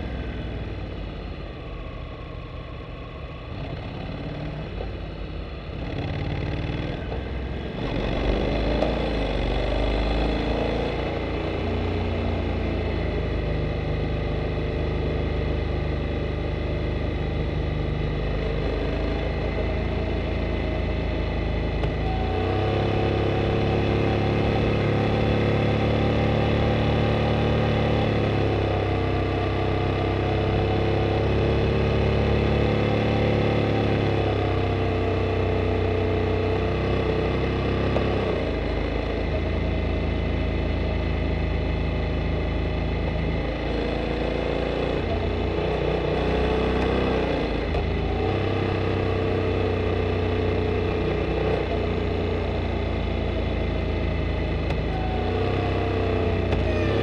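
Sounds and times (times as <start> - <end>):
motorcycle engine revving: 5.7 - 57.0.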